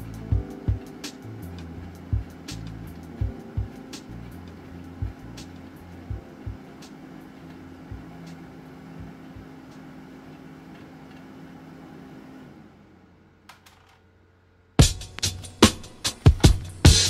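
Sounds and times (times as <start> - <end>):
mechanical hum with held tone: 0.0 - 17.0.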